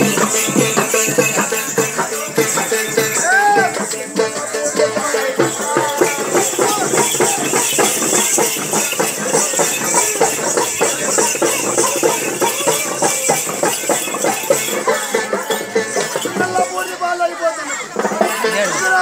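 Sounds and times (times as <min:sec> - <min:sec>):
crowd voices: 0:00.0 - 0:19.0
hand drums beating: 0:00.0 - 0:19.0
jingling rattling percussion: 0:00.0 - 0:19.0.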